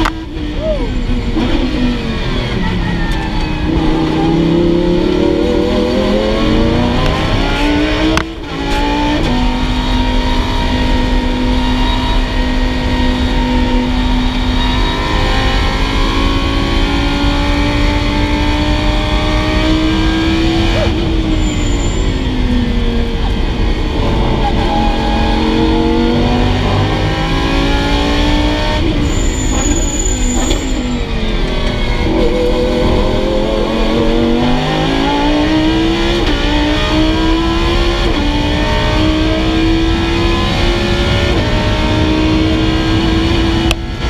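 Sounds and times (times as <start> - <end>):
car engine accelerating hard: 0.0 - 44.0.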